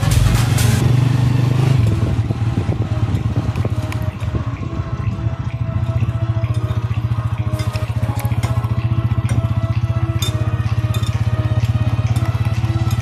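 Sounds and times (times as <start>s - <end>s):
faint background music: 0.0s - 13.0s
motorcycle engine cruising: 0.0s - 13.0s.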